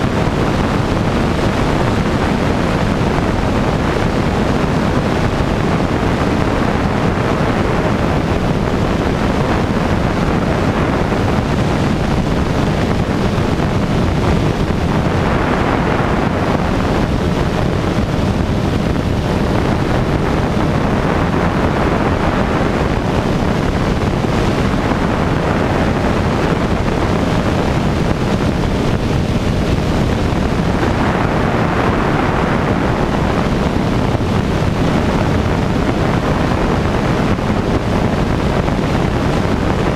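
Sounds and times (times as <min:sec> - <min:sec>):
aircraft engine and propeller drone: 0:00.0 - 0:39.9
wind noise on microphone: 0:00.0 - 0:39.9.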